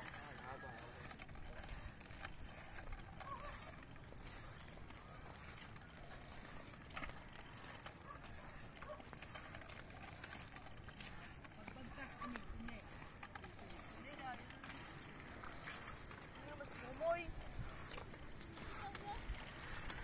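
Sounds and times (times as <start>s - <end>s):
small wheels rolling on asphalt: 0.0s - 20.0s.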